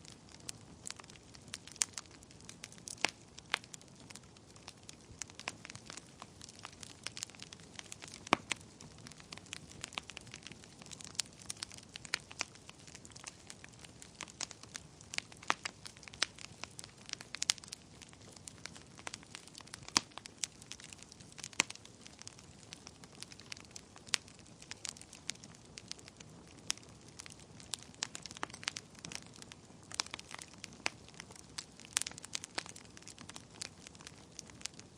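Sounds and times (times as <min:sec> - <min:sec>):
wood fire crackling: 0:00.0 - 0:34.9
sharp pops of fire: 0:00.3 - 0:34.8.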